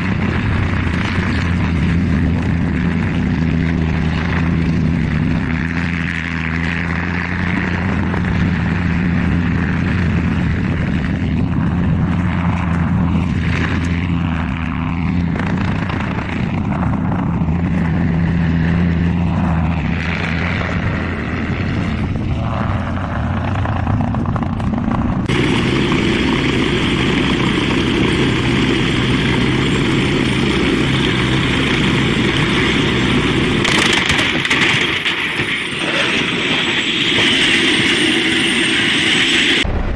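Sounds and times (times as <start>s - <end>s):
noisier aircraft engine: 0.0s - 39.9s
propeller aircraft engine: 0.0s - 39.9s.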